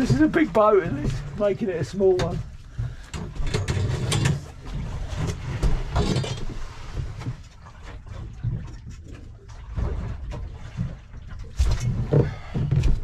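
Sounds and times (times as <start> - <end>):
knocks and thumps on boat deck: 0.0 - 13.0.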